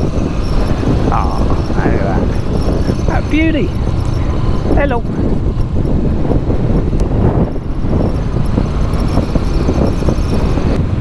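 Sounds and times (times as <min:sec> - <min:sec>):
motorbike engine running: 0:00.0 - 0:11.0
wind noise on microphone: 0:00.0 - 0:11.0.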